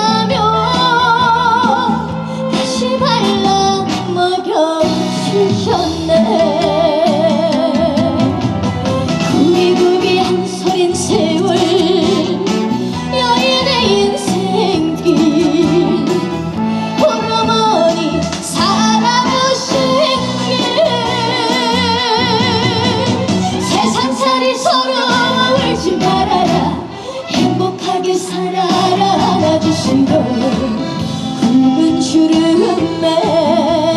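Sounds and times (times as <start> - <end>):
woman singing with vibrato: 0.0 - 8.6, 9.2 - 33.9
backing band playing: 0.0 - 33.9.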